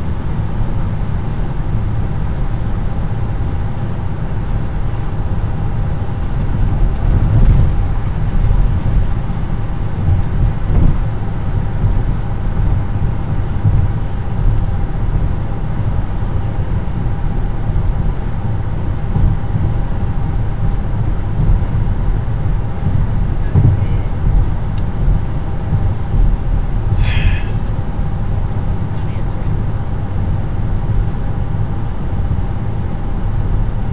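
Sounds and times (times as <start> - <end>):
tyre and wind rumble: 0.0 - 29.0.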